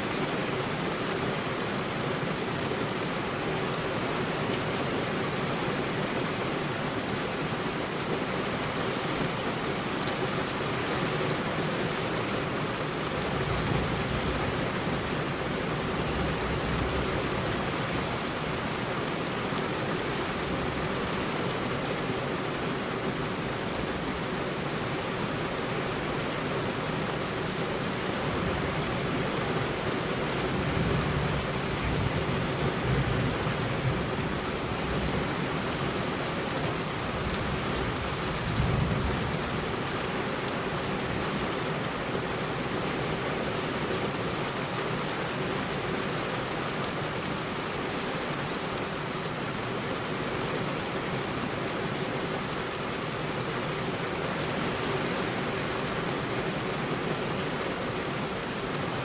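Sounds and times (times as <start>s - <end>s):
heavy rain on a road: 0.0s - 59.0s.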